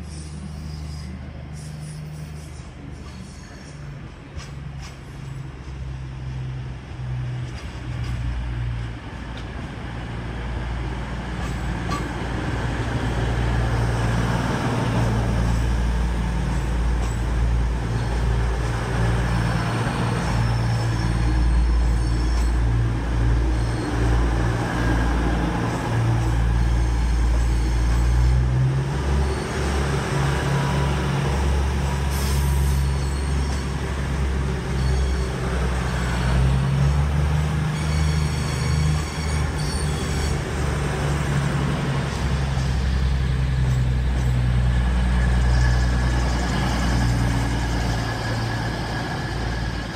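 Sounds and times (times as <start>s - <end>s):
diesel train engine drone: 0.0s - 49.9s.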